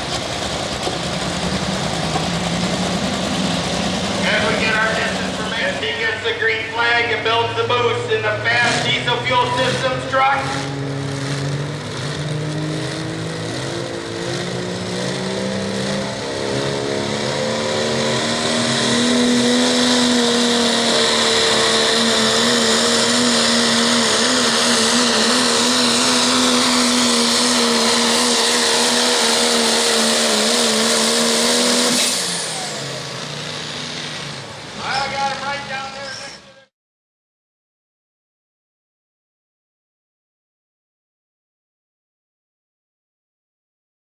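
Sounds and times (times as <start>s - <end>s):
diesel truck engine at full throttle: 0.0s - 36.7s.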